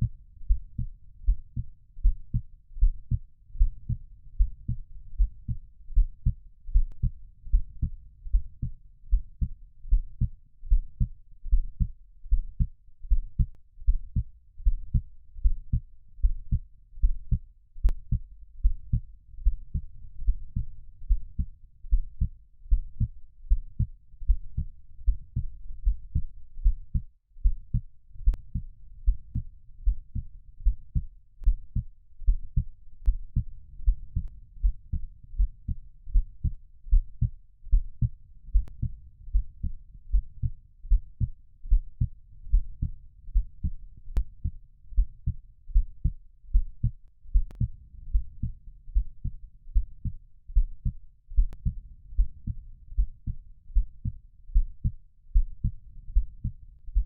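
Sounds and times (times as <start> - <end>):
heartbeat thumps: 0.0 - 57.0.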